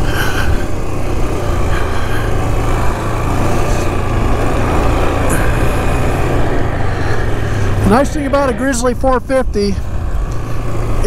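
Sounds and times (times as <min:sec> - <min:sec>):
atv engine running under load: 0:00.0 - 0:11.0.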